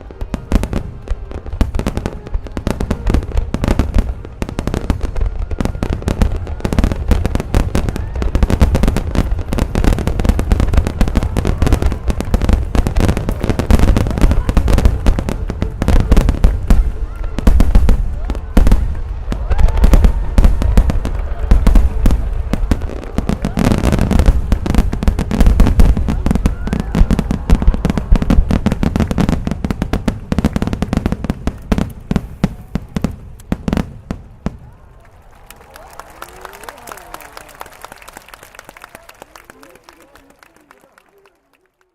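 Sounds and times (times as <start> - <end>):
deep fireworks booms: 0.0 - 34.8
fireworks bursting and crackling: 0.0 - 41.9.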